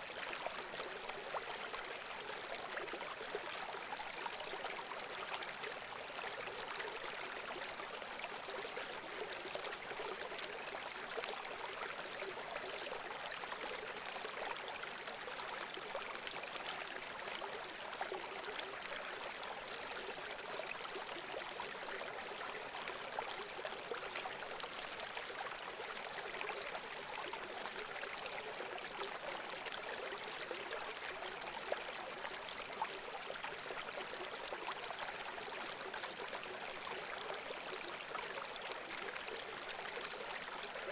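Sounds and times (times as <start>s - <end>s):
stream flowing and trickling: 0.0s - 40.9s.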